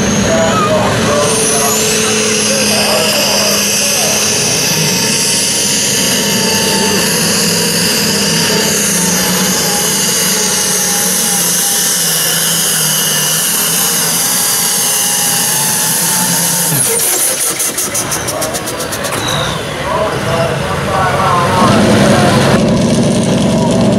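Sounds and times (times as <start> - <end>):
diesel tractor engine at full throttle: 0.0 - 23.9.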